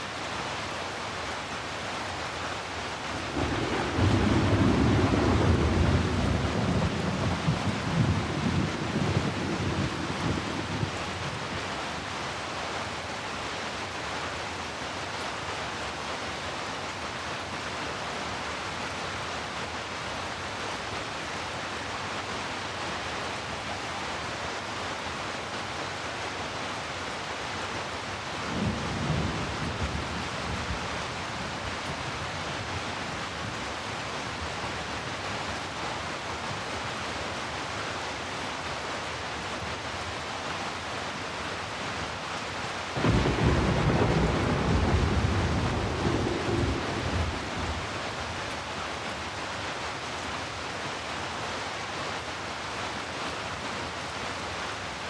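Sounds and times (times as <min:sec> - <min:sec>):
heavy rainfall: 0:00.0 - 0:55.0.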